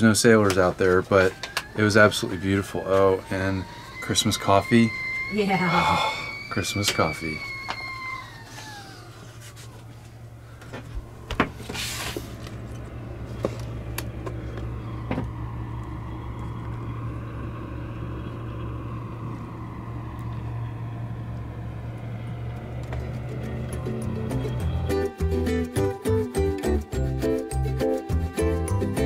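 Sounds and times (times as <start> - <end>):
low mechanical hum: 0.0 - 25.1.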